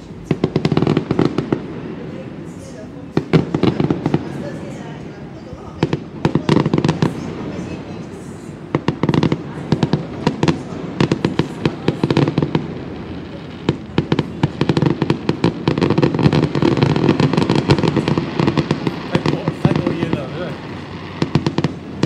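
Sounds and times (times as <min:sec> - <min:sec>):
fireworks cracking and popping: 0:00.0 - 0:22.0.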